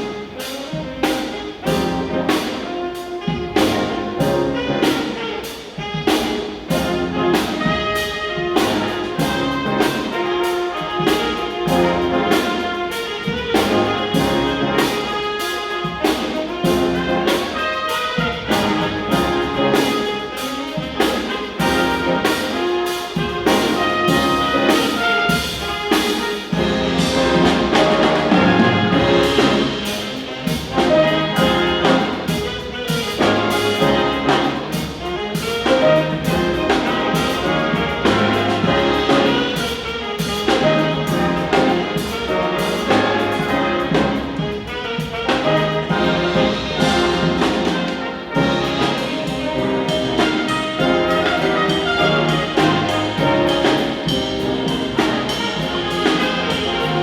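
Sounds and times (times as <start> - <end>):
band playing brass melody: 0.0 - 57.0
steady drum beat: 0.0 - 57.0.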